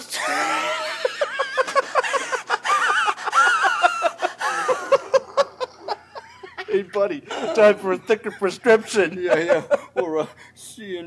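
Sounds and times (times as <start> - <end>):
men laughing hard: 0.2 - 10.3.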